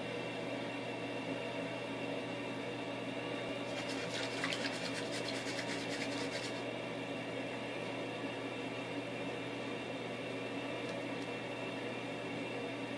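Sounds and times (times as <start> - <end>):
steady machine hum: 0.0 - 12.9.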